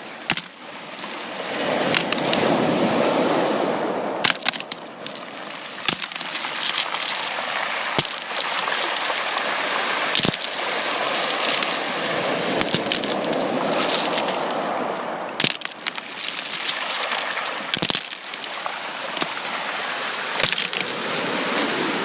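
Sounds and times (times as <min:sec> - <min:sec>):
surf washing on shore: 0:00.0 - 0:22.0.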